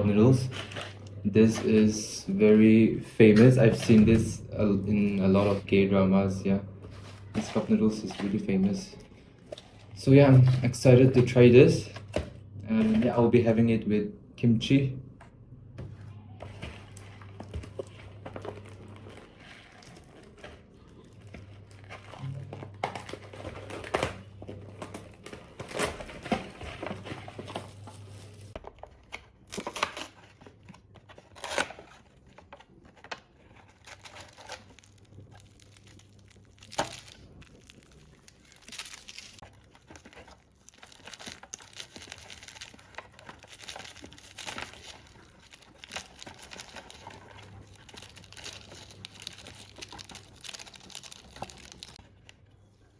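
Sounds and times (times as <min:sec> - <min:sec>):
food packaging crinkling and tearing: 0:00.1 - 0:02.4, 0:06.9 - 0:12.2, 0:16.4 - 0:52.5.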